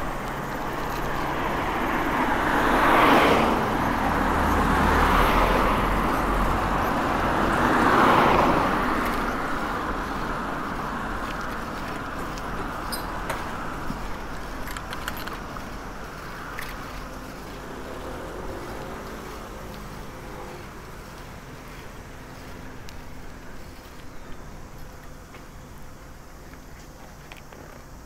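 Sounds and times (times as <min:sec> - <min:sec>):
vehicle passing close: 0:00.0 - 0:24.0
engine hum: 0:00.0 - 0:28.0.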